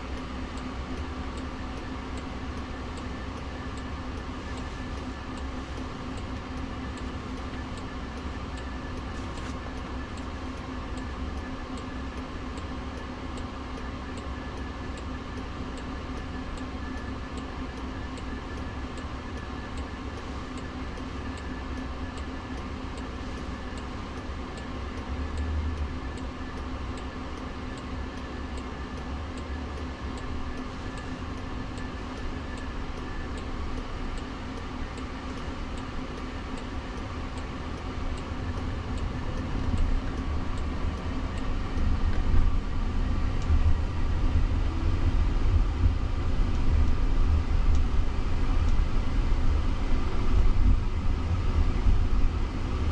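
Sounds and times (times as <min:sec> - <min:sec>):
turn signal ticking: 0:00.0 - 0:52.8
low cabin hum: 0:00.0 - 0:52.9
road and tyre rumble: 0:00.0 - 0:52.9.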